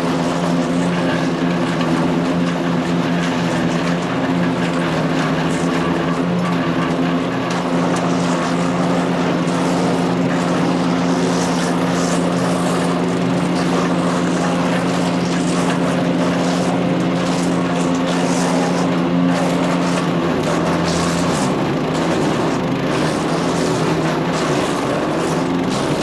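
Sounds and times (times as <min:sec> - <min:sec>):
rough higher rasp: 0:00.0 - 0:26.0
wood chipper engine running: 0:00.0 - 0:26.0.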